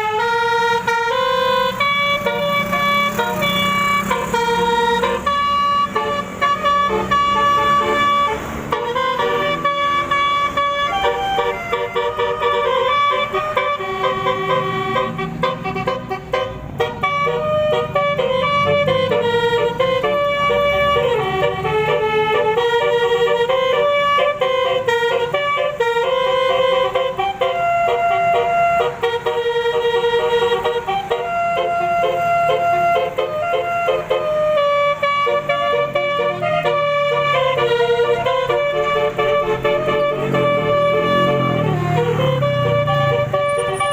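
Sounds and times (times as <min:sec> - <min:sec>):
multi-tone vehicle horn tune: 0:00.0 - 0:43.9.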